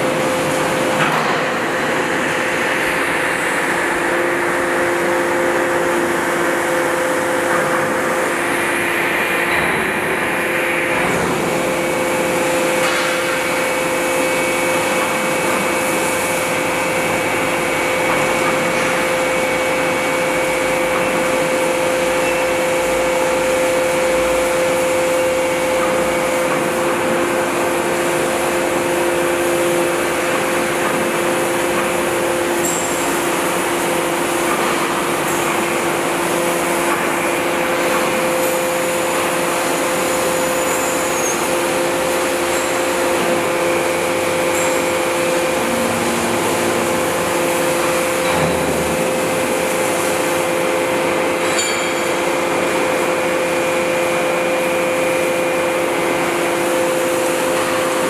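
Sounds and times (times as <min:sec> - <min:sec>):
machine hum with two-tone whine: 0:00.0 - 0:58.0.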